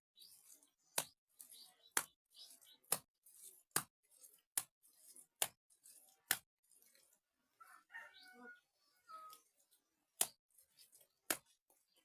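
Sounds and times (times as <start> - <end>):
mud rubbing and smearing: 0.2 - 7.8, 9.0 - 12.0.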